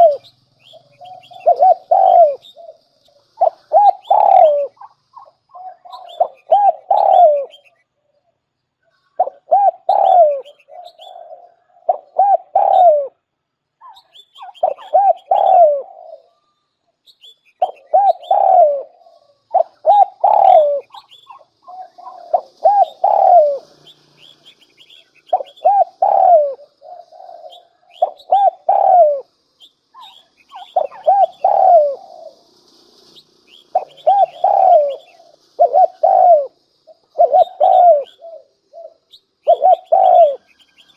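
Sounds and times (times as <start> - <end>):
dove cooing: 0.0 - 7.8, 9.2 - 16.4, 17.6 - 32.5, 33.5 - 40.9
small birds chirping: 0.0 - 40.9.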